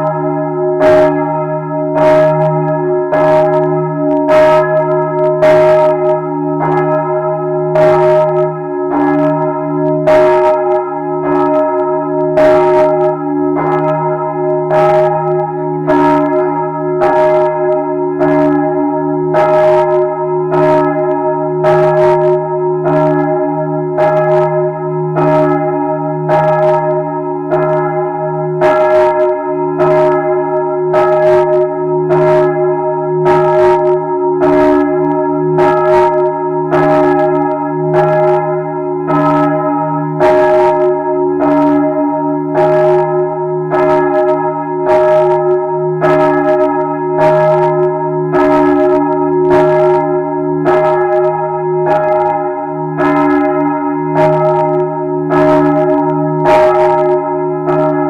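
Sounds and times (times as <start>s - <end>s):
large church bell ringing: 0.0s - 58.0s.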